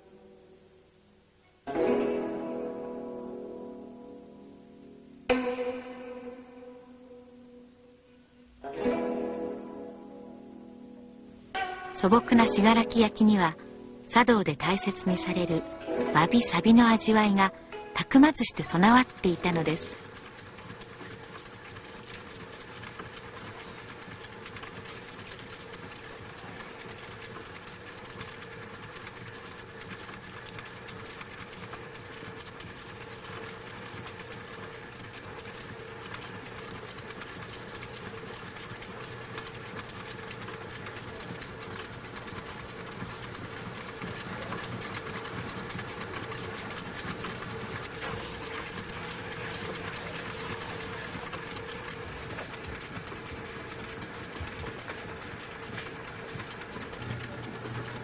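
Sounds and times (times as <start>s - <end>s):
potter's wheel humming: 2.2s - 58.0s.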